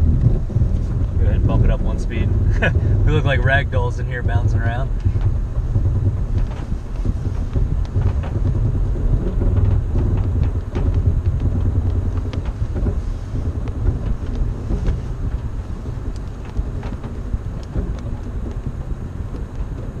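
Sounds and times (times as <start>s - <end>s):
low engine rumble: 0.0s - 20.0s
truck knocks and clicks: 0.0s - 20.0s.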